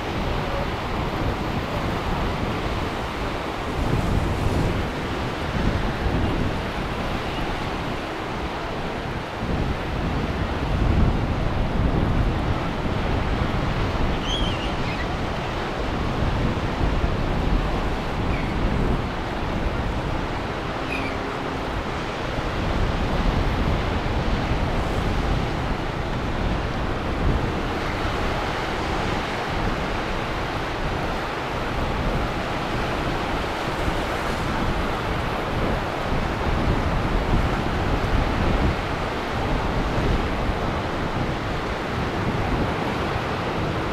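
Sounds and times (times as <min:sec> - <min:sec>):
ocean waves and surf: 0:00.0 - 0:43.9
wind buffeting microphone: 0:00.0 - 0:43.9.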